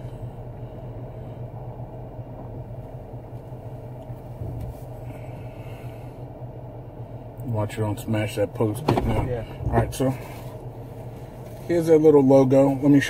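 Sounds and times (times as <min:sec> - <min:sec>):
car engine humming from inside: 0:00.0 - 0:13.0.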